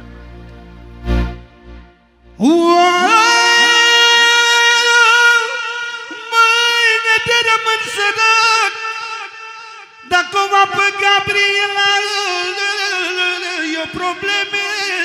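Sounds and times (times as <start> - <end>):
man singing through microphone: 2.4 - 15.0.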